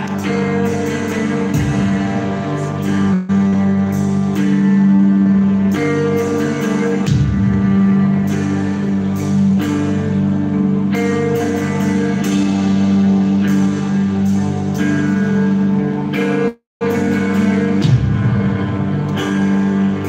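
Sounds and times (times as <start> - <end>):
distorted electric guitars: 0.0 - 20.0
drums: 0.0 - 20.0.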